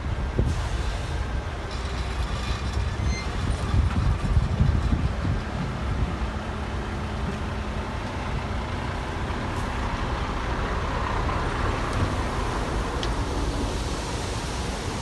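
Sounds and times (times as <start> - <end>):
heavy diesel machinery rumble: 0.0 - 15.0.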